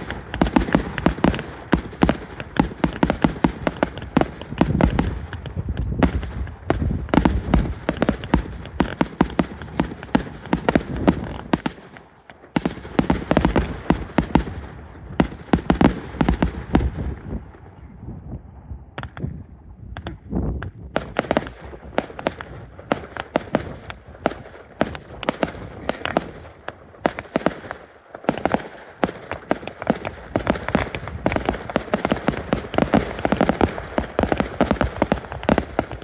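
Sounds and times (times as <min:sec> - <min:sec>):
fireworks bangs and crackles: 0:00.0 - 0:17.8, 0:18.9 - 0:36.0.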